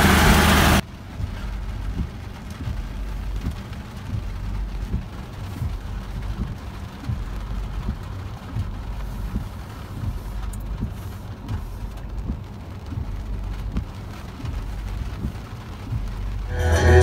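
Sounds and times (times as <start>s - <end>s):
suspension thumping over bumps: 0.0s - 16.5s
car road rumble and tyre noise: 0.0s - 17.0s.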